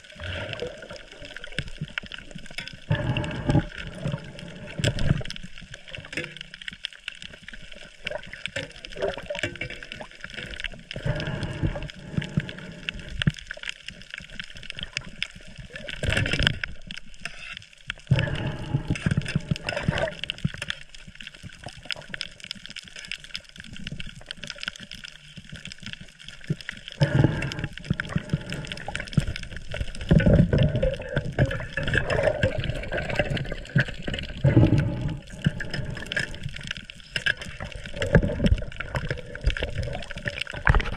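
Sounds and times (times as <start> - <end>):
underwater gurgling and sloshing: 0.0 - 40.9.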